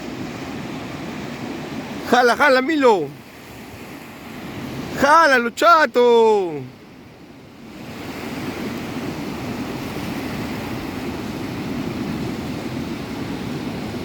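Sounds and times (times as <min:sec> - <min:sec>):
sea surf: 0:00.0 - 0:14.0
wind: 0:00.0 - 0:14.0.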